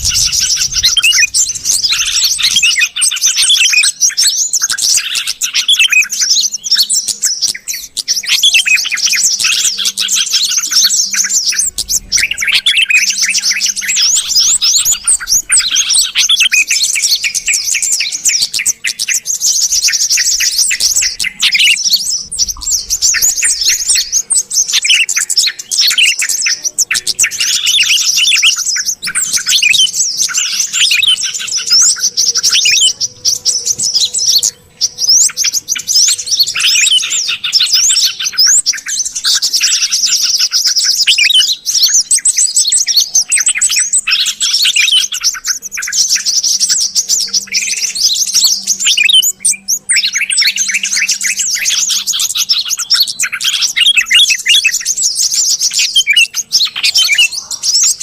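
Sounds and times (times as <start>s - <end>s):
bulbuls chirping and whistling: 0.0s - 58.0s.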